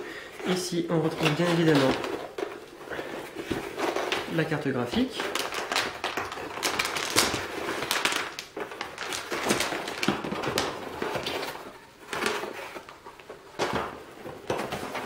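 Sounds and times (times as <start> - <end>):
metallic bag crinkling: 0.5 - 13.6
cardboard packaging scraping: 0.5 - 15.0.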